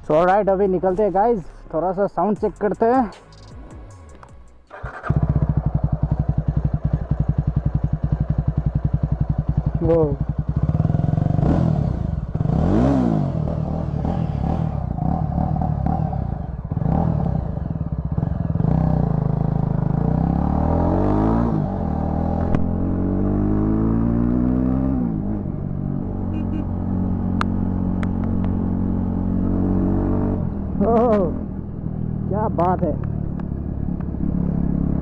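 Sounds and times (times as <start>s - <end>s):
loud motorcycle engine accelerating: 4.7s - 35.0s.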